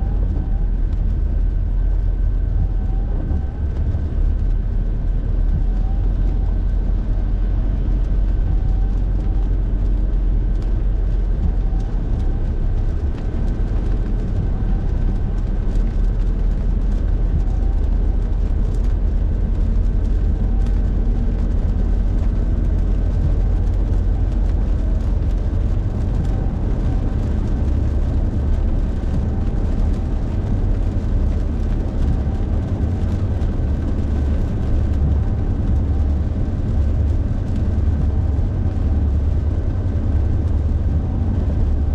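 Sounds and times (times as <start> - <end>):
car road and engine rumble: 0.0 - 41.9.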